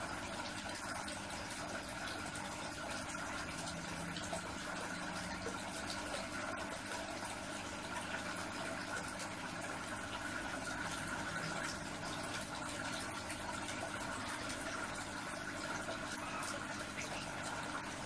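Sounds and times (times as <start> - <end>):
aquarium pump humming: 0.0 - 18.0
water trickling: 0.0 - 18.0.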